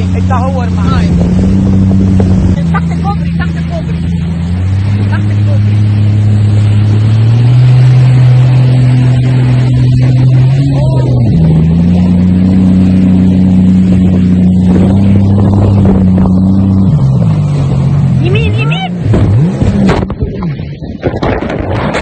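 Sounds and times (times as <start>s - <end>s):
jet ski engine running hard: 0.0s - 22.0s
rushing water noise: 0.0s - 22.0s.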